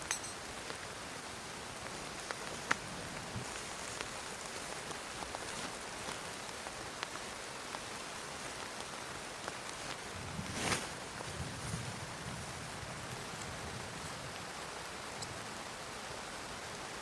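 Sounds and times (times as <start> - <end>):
raindrops ticking on a surface: 0.0 - 10.2, 11.0 - 17.0
steady rain hiss: 0.0 - 17.0.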